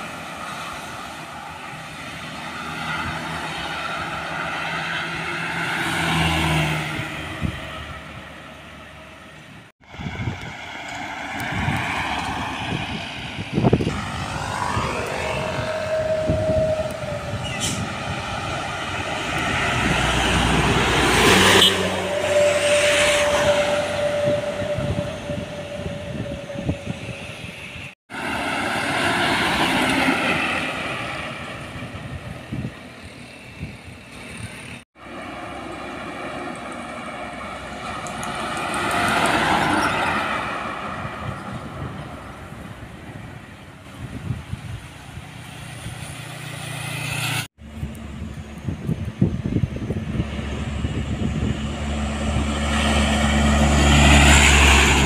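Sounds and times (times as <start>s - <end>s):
trucks passing on highway: 0.0s - 55.0s.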